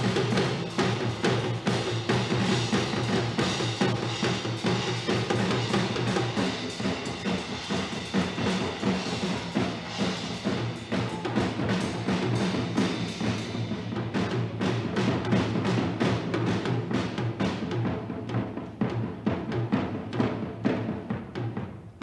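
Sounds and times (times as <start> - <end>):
drum kit playing: 0.0 - 21.9.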